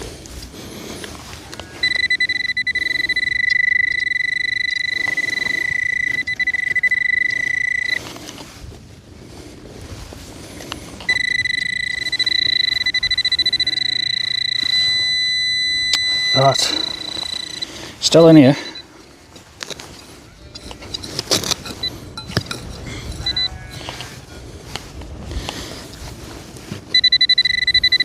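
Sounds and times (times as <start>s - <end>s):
soil rustling: 0.0s - 28.0s.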